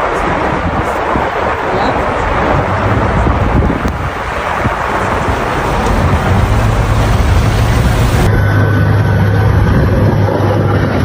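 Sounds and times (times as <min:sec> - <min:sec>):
loud rushing noise: 0:00.0 - 0:10.3
vehicle engine hum: 0:01.7 - 0:11.0.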